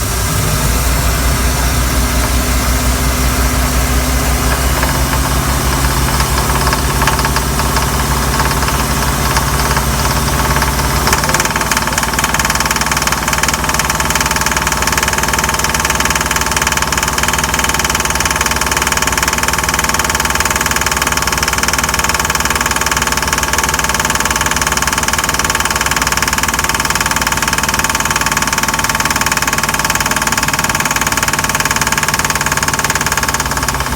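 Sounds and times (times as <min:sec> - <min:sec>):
boat engine knocking: 0:00.0 - 0:33.9.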